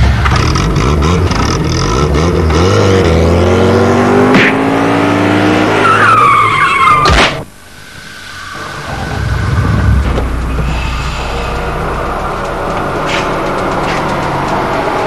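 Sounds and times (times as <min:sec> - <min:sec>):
car engine revving: 0:00.0 - 0:06.0, 0:07.9 - 0:15.0.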